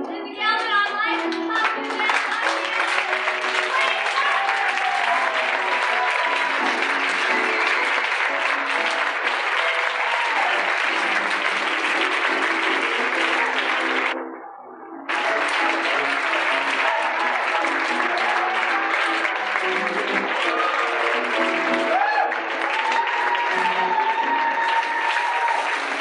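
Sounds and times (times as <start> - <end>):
audience applauding: 0.0 - 14.2, 15.0 - 26.0
music with held notes: 0.0 - 26.0.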